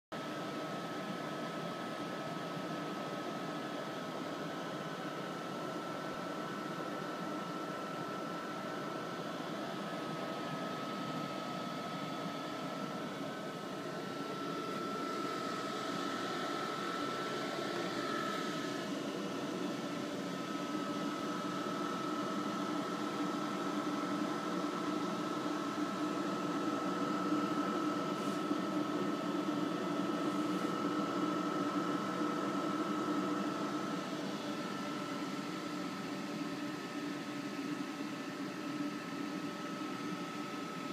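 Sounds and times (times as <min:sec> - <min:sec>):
projector cooling fans whirring: 0:00.2 - 0:40.9.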